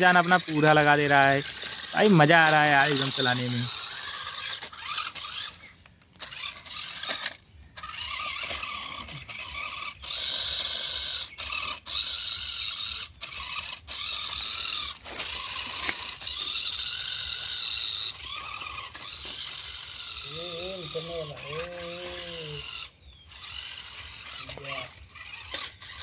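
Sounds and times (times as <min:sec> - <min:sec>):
toy truck motor whining: 0:00.0 - 0:26.0.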